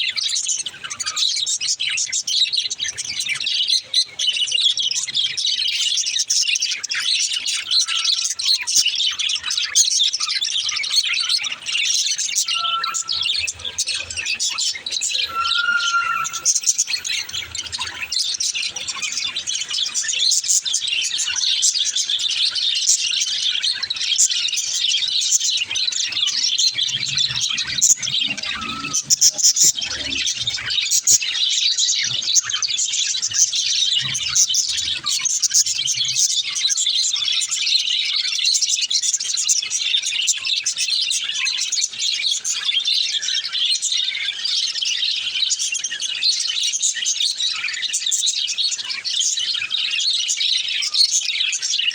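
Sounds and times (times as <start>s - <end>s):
many small birds chirping: 0.0s - 51.9s.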